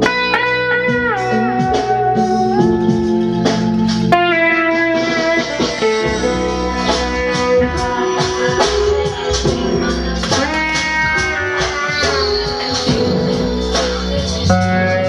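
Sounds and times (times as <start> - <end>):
pedal steel guitar sliding chords: 0.0 - 15.0.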